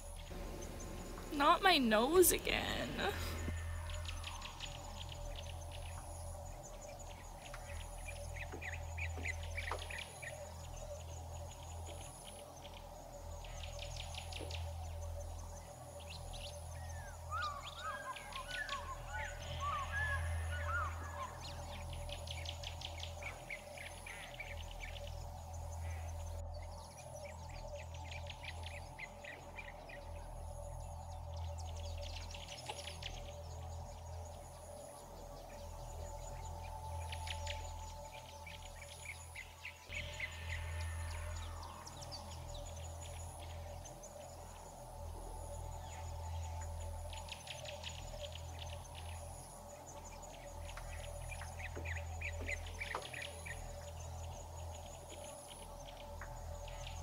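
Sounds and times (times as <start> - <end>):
birds chirping and trilling: 0.0 - 57.0
steady low hum: 0.0 - 57.0.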